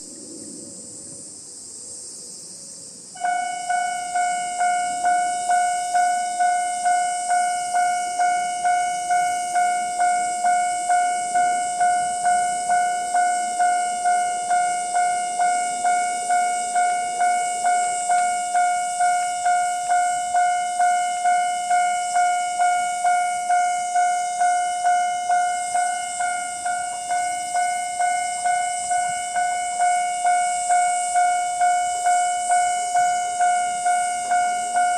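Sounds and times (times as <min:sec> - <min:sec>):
level crossing alarm bell: 0:03.2 - 0:34.9.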